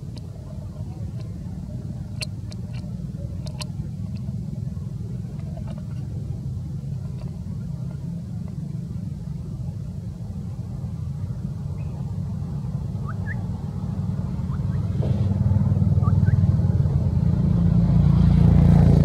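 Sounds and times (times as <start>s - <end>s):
motor running low rumble: 0.0s - 19.0s.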